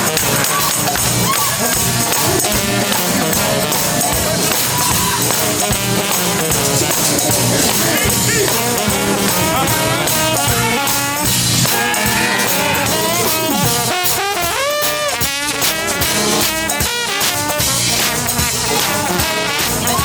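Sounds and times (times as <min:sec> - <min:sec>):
brass band playing: 0:00.0 - 0:20.0
steady percussion: 0:00.0 - 0:20.0.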